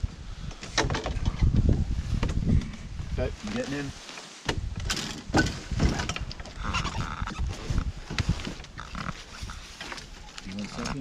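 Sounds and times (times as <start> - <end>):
people climbing into canoe: 0.4 - 11.0.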